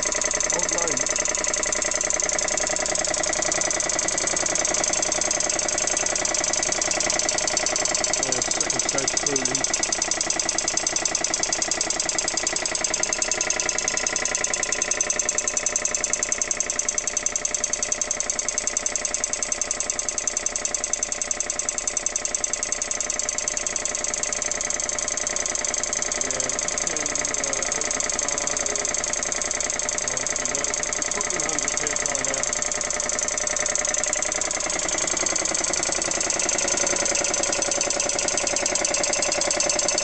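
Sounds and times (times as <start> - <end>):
air compressor pulsing: 0.0 - 40.0.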